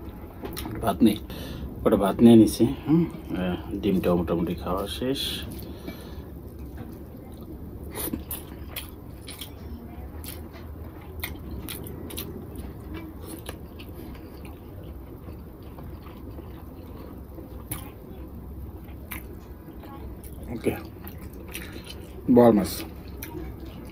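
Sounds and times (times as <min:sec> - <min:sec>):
steady low hum: 0:00.0 - 0:23.9
person chewing: 0:02.9 - 0:23.9.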